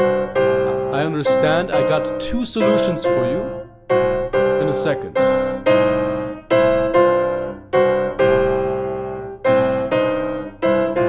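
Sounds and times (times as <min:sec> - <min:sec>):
boogie-woogie piano: 0:00.0 - 0:11.0.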